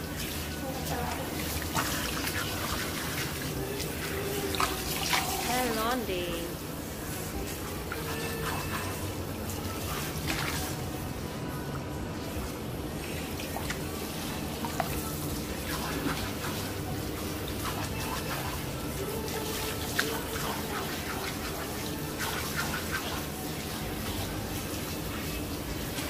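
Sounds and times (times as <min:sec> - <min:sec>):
shower sprayer water hissing: 0:00.0 - 0:11.4, 0:12.2 - 0:26.0
small water splashes: 0:00.1 - 0:05.9, 0:07.5 - 0:11.0, 0:13.0 - 0:26.0.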